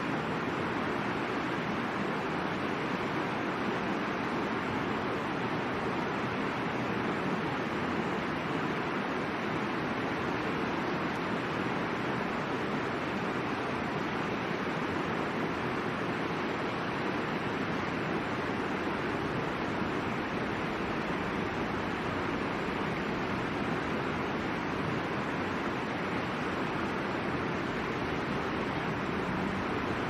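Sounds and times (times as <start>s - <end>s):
river rushing over rocks: 0.0s - 30.0s.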